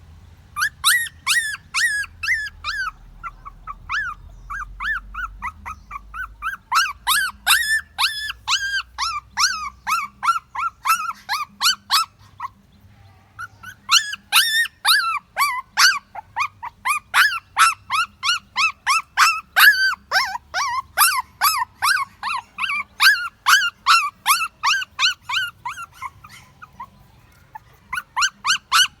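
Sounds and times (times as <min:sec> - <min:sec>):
puppy whimpering yelps: 0:00.6 - 0:12.6, 0:13.4 - 0:29.0.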